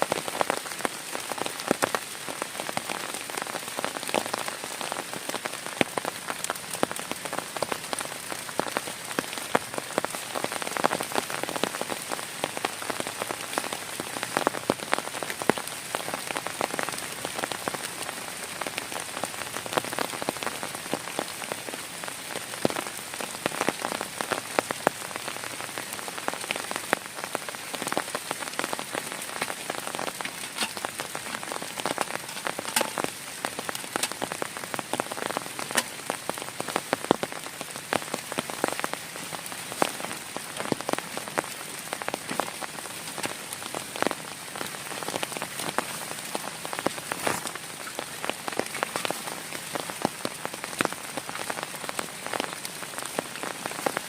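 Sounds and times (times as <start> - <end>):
heavy rain falling: 0.0 - 54.0
raindrops striking a surface: 0.0 - 54.0.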